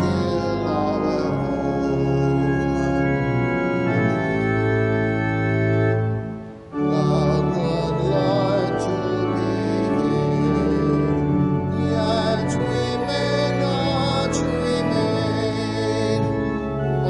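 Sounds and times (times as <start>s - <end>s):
church organ playing hymn: 0.0s - 17.0s.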